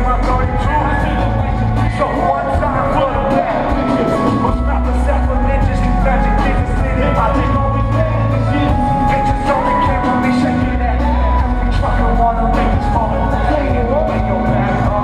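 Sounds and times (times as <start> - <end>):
rap music with heavy bass: 0.0 - 15.0.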